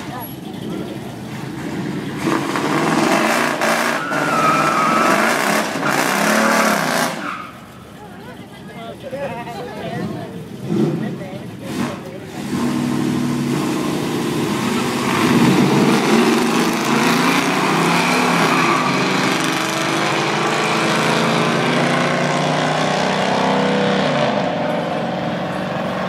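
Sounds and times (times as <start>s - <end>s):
car engines accelerating hard: 0.0s - 26.0s.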